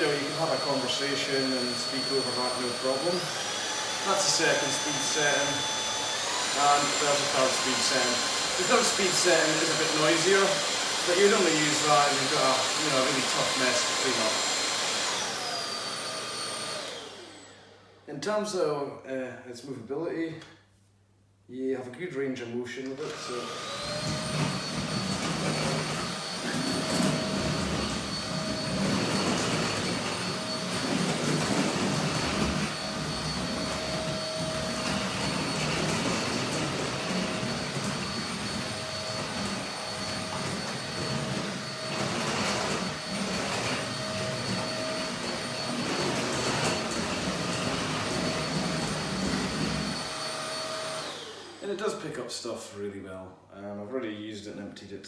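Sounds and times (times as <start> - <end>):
vacuum cleaner motor whine: 0.0 - 18.0, 22.9 - 51.9.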